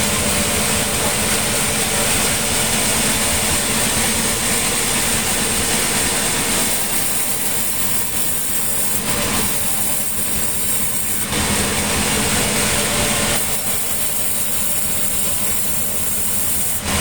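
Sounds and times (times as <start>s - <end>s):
sawmill machinery humming: 0.0s - 17.0s.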